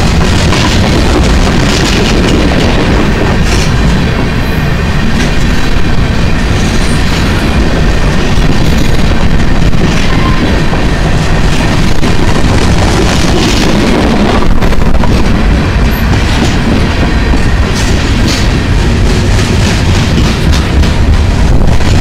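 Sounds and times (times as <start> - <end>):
clattering clicks of train wheels: 0.0 - 22.0
freight train wheels rumbling on rails: 0.0 - 22.0.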